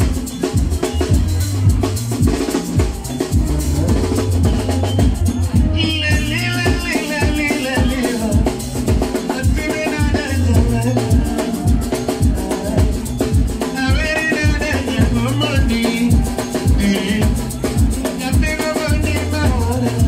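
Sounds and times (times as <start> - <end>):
dance music with kick drum: 0.0 - 20.0
person singing: 3.1 - 20.0.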